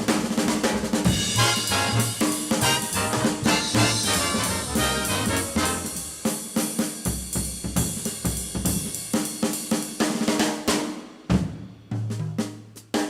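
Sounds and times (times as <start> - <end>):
drum kit solo: 0.0 - 13.0.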